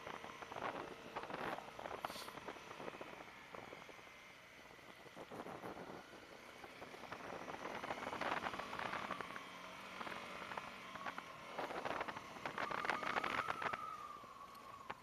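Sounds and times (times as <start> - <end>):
gravel crackling under tyres: 0.0 - 15.0
motorcycle engine running: 0.0 - 15.0.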